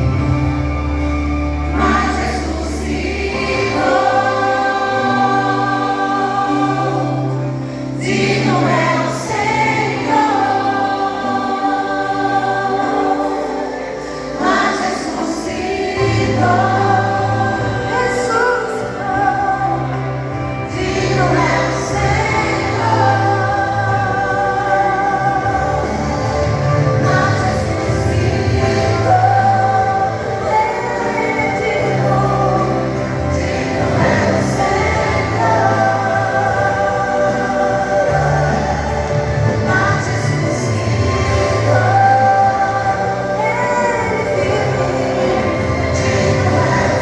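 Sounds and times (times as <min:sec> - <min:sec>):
steady bass accompaniment: 0:00.0 - 0:47.0
vocal group singing: 0:00.0 - 0:47.0.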